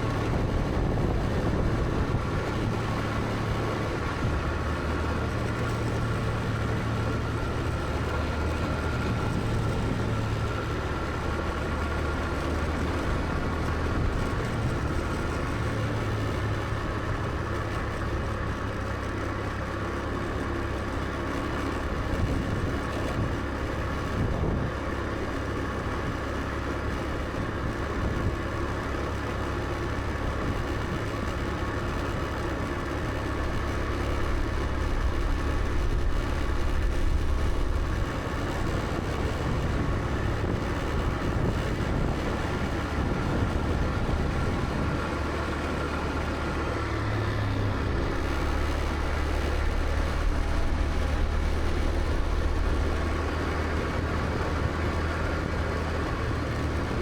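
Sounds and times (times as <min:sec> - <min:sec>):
road and wind noise: 0:00.0 - 0:57.0
scooter engine cruising: 0:00.0 - 0:57.0.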